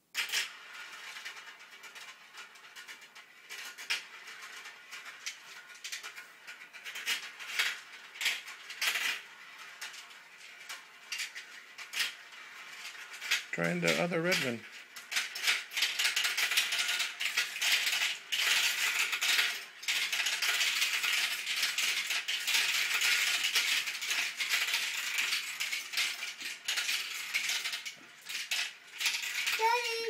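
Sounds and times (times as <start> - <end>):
marbles rattling down plastic track: 0.1 - 30.0.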